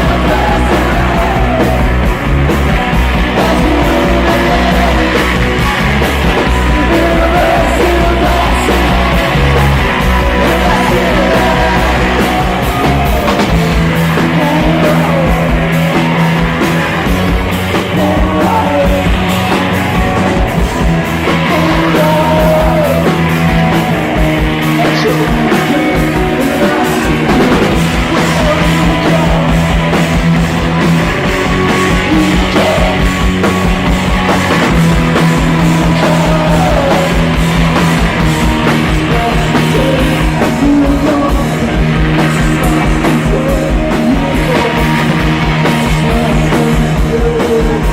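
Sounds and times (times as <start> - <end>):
person singing: 0.0 - 2.2, 2.8 - 30.0, 31.6 - 33.4, 34.8 - 37.4, 38.1 - 47.9
bass guitar: 0.0 - 47.9
electric guitars: 0.0 - 47.9
pounding drums: 0.0 - 47.9.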